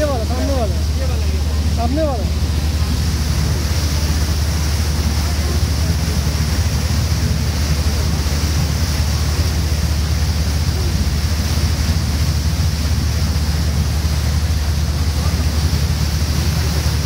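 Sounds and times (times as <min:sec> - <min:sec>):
boat engine rumble: 0:00.0 - 0:17.0
rushing hiss of churning wake: 0:00.0 - 0:17.0.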